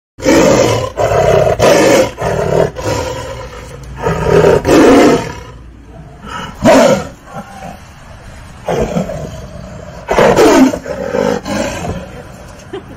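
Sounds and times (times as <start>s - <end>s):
tiger roaring and snarling: 0.2s - 12.4s.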